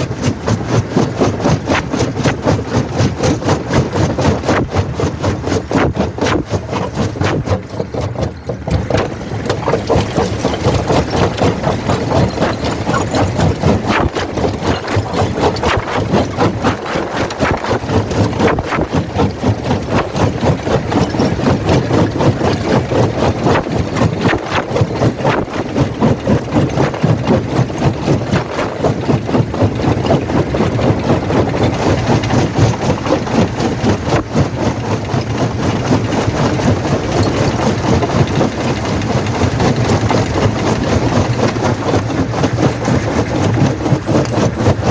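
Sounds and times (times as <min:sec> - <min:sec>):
jaw crusher knocking: 0:00.0 - 0:44.9.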